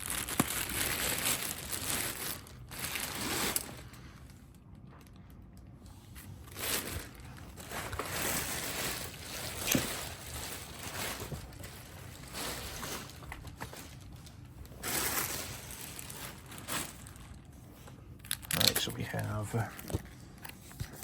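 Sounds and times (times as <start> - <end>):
plastic wrap and cardboard rustling: 0.0 - 21.0.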